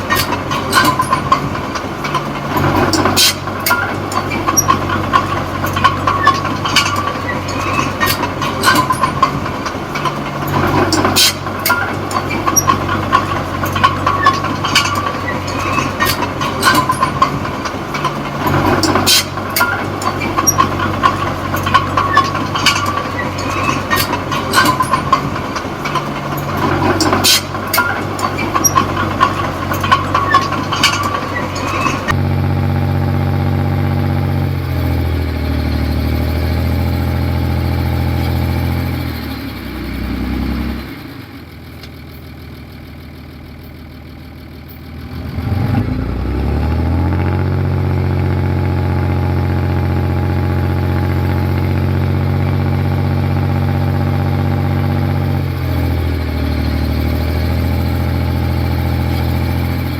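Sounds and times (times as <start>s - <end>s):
bulldozer diesel engine: 0.0s - 59.9s
steel tracks clanking: 0.0s - 59.9s.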